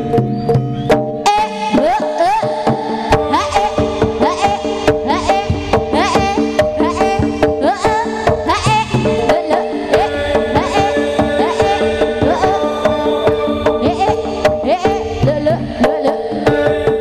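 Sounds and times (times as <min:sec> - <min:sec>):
hand drums fast rhythm: 0:00.0 - 0:17.0
steady held tones: 0:00.0 - 0:17.0.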